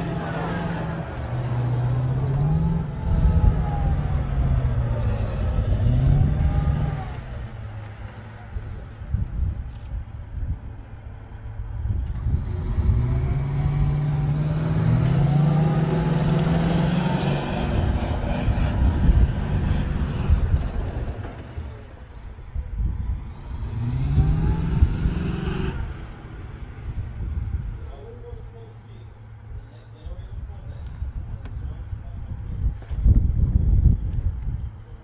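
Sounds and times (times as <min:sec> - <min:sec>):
diesel engine accelerating: 0:00.0 - 0:35.0
rumble of tracks: 0:00.0 - 0:35.0.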